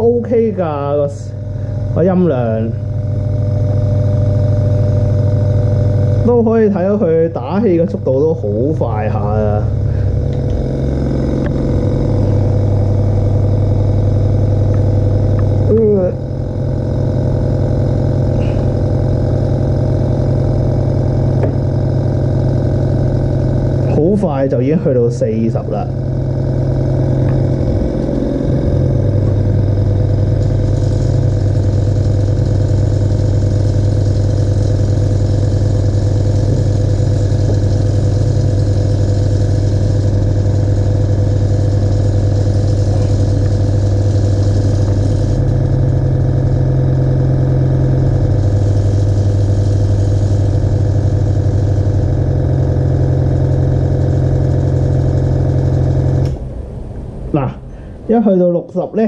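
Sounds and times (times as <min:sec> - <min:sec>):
air compressor humming: 0:00.0 - 0:59.0.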